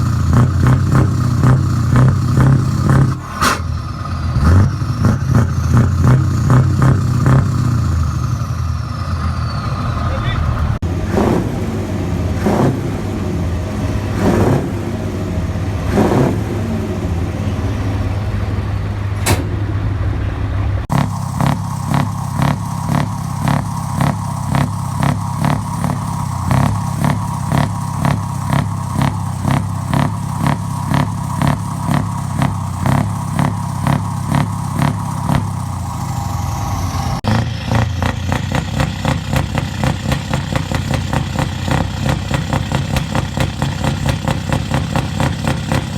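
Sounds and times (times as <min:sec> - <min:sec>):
truck engine revving: 0:00.0 - 0:45.9.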